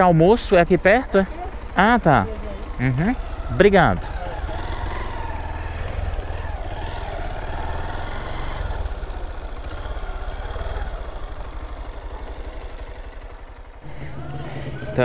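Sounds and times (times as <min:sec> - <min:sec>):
motorcycle engine running slowly: 0:00.0 - 0:15.0.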